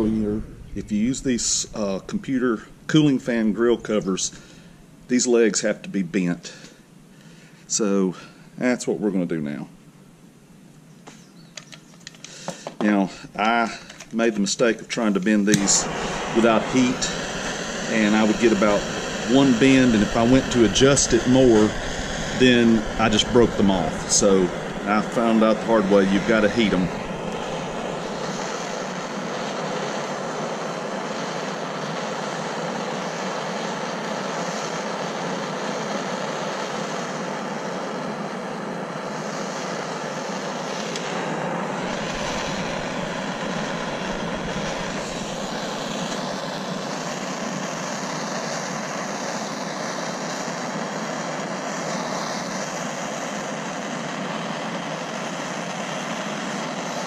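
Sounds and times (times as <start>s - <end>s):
gas torch hissing roar: 0.0s - 8.9s, 12.1s - 57.0s.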